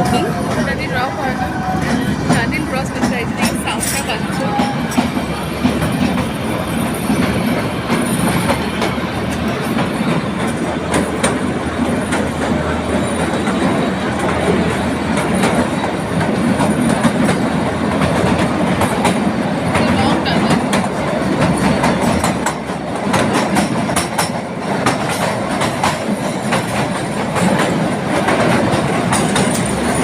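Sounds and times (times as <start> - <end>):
train rumble inside coach: 0.0 - 30.0
wheels clicking over rail joints: 0.0 - 30.0.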